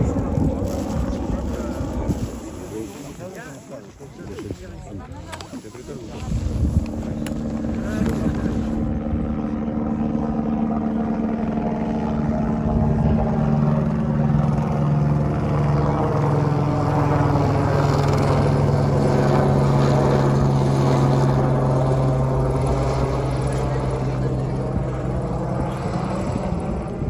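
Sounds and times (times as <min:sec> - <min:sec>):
helicopter rotor and engine drone: 0:00.0 - 0:27.0.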